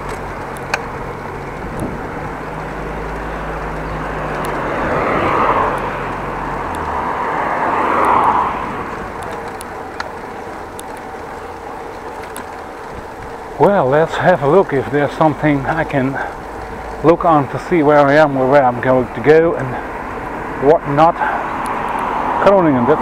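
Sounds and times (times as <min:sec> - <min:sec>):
steady road noise: 0:00.0 - 0:23.0
vehicles passing by: 0:00.0 - 0:23.0.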